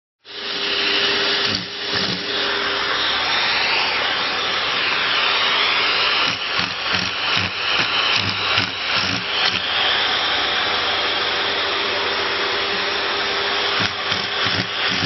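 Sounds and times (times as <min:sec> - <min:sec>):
vacuum cleaner running: 0:00.2 - 0:15.0.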